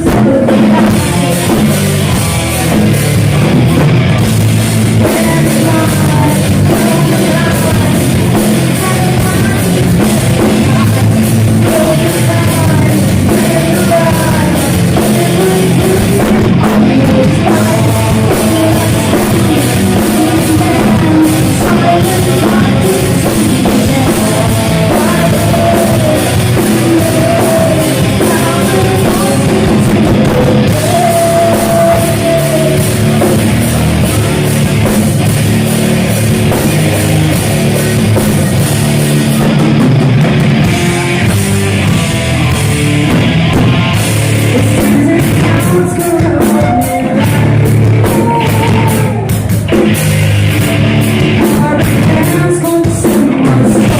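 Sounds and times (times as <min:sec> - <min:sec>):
heavy metal band playing live: 0:00.0 - 0:53.9
sung vocals: 0:00.0 - 0:53.9.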